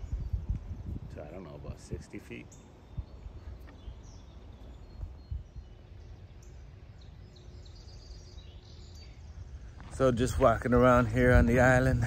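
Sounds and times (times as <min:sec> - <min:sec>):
faint bird chirps: 0:00.0 - 0:11.1
outdoor background noise: 0:00.0 - 0:12.0.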